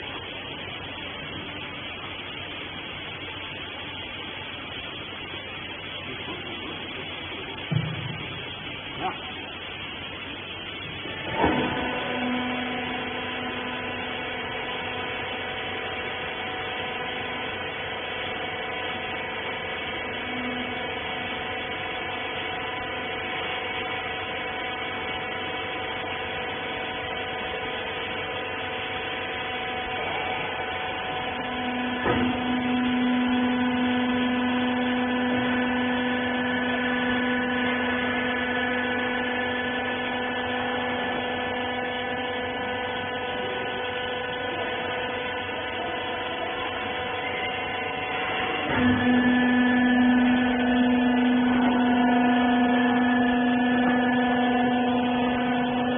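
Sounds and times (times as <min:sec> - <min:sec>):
hydraulic power unit humming: 0:00.0 - 0:55.9.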